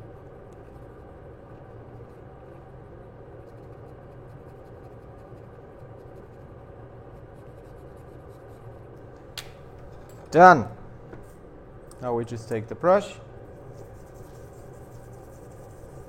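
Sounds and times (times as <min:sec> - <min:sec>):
low electrical hum with hiss: 0:00.0 - 0:16.0.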